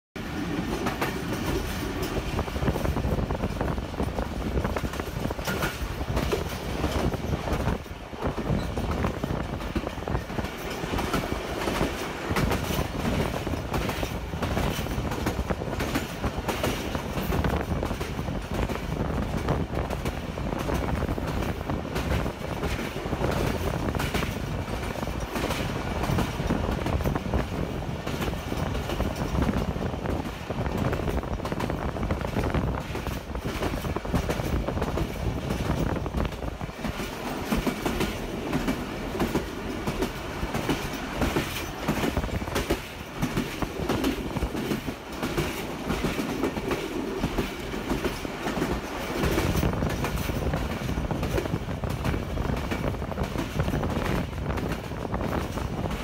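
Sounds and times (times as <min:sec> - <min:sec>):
train wheels clattering on rails: 0:00.2 - 0:56.0.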